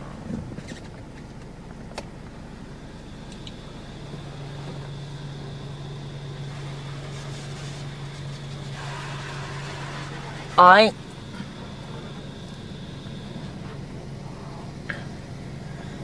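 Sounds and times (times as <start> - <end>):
car wash machinery hum: 0.0 - 16.0
faint high whine: 0.0 - 16.0.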